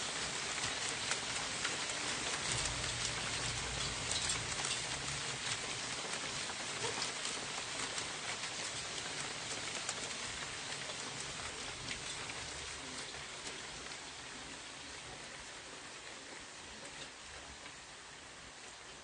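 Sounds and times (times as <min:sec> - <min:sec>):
hailstones on wooden deck: 0:00.0 - 0:19.0.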